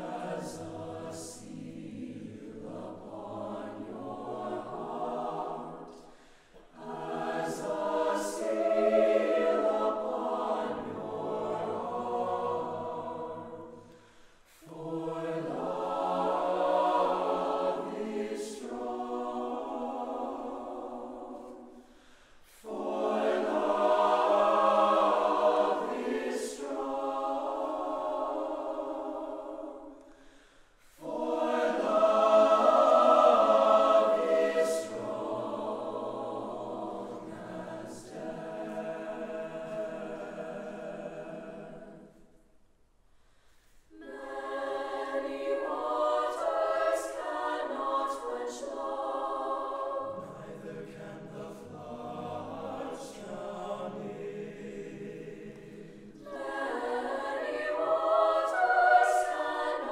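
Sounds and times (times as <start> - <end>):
mixed choir singing: 0.0 - 42.4, 43.9 - 59.9.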